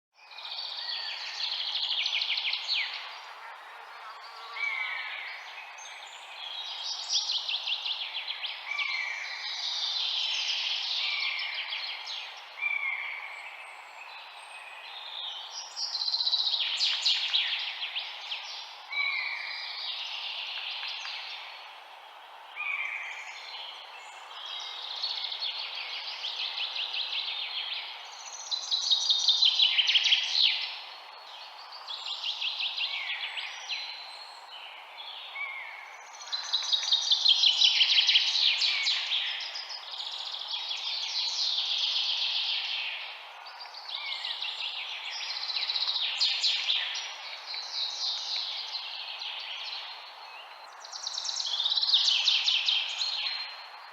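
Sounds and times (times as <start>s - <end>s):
birds singing trills and whistles: 0.2s - 53.9s
steady background hiss: 0.4s - 53.9s.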